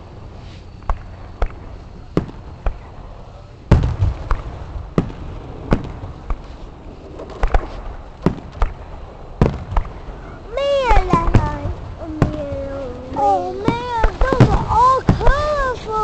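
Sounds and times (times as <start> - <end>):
fireworks bangs: 0.0 - 16.0
low rumble: 0.0 - 16.0.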